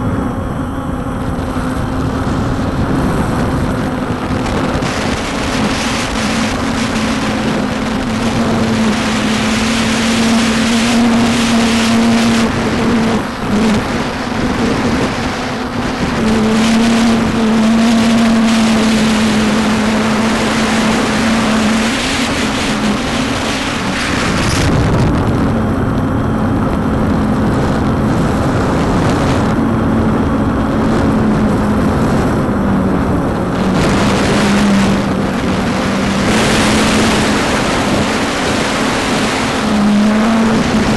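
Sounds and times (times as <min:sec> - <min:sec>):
drone motors humming: 0:00.0 - 0:40.9
wind noise on microphone: 0:00.0 - 0:40.9.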